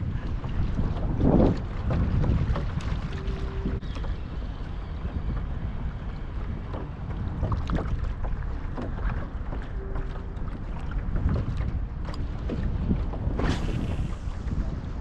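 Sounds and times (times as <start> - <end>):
water lapping at kayak: 0.0 - 15.0
wind rumbling on microphone: 0.0 - 15.0.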